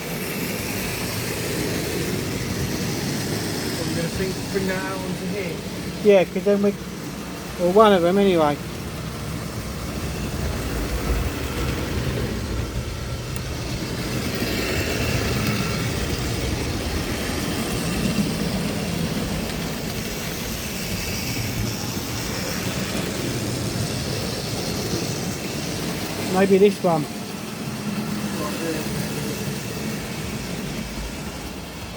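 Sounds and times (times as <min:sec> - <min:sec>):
model train wheels rumbling: 0:00.0 - 0:31.9.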